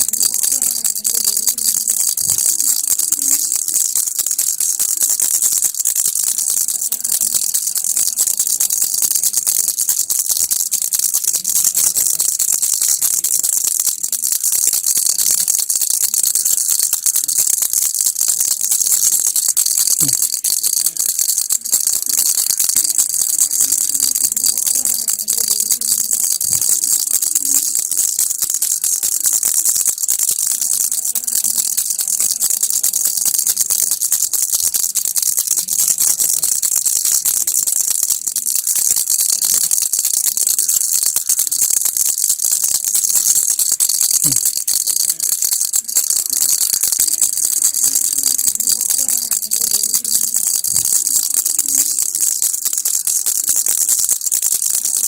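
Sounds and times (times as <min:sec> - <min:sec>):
toy rattle shaking: 0:00.0 - 0:55.0.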